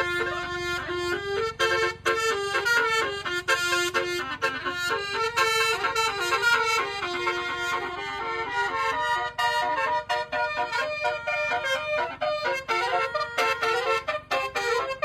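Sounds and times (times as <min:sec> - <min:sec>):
multi-tone bus air horn melody: 0:00.0 - 0:15.0.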